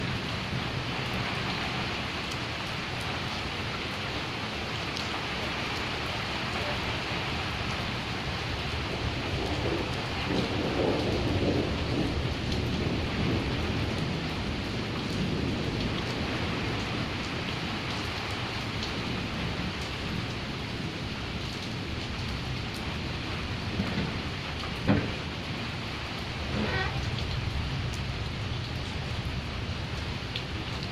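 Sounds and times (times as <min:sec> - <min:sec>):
thunder rumbling: 0:00.0 - 0:30.7
steady rain: 0:00.0 - 0:30.9.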